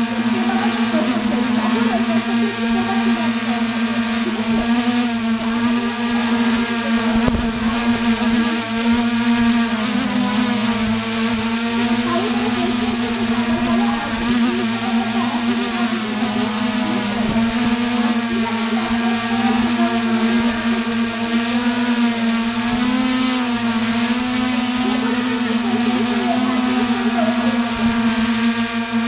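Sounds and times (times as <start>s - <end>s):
drone motors humming and whining: 0.0s - 29.0s.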